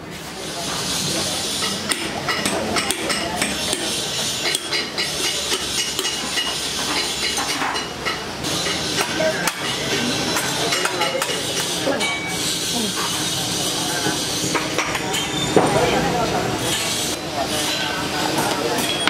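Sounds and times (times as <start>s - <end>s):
open-air background noise: 0.0s - 19.0s.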